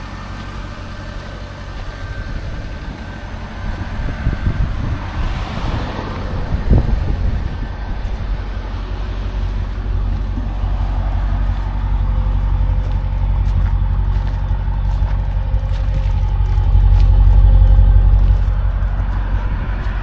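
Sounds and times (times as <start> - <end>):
car engine rumble: 0.0 - 20.0
road noise: 0.0 - 20.0.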